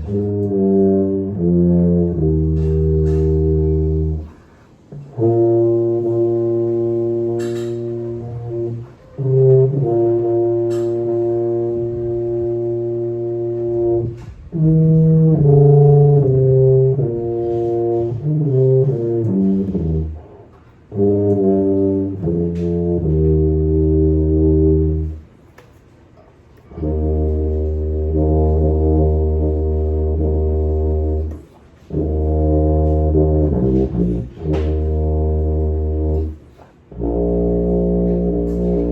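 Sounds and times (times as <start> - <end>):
solo tuba notes: 0.0 - 25.4, 26.6 - 38.9.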